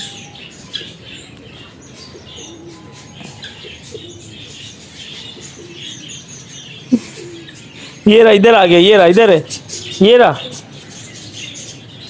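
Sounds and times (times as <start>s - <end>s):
doves cooing: 0.0s - 12.0s
finches chirping: 0.0s - 12.0s.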